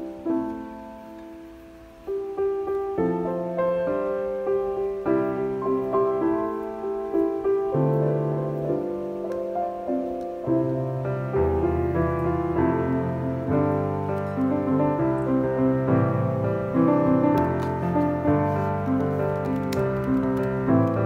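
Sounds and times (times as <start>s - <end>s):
gentle piano melody: 0.0s - 21.0s.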